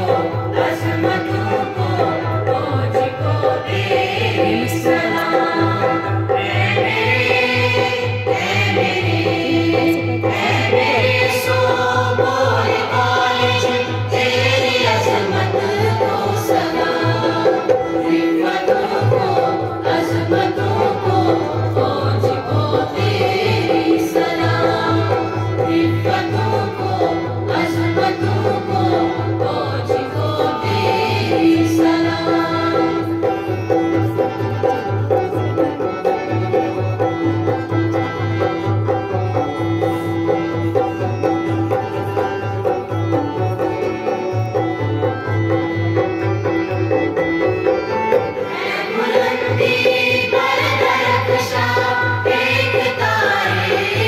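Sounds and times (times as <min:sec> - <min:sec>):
people singing: 0:00.0 - 0:45.6, 0:47.2 - 0:54.0
instrumental backing with pulsing beat: 0:00.0 - 0:54.0.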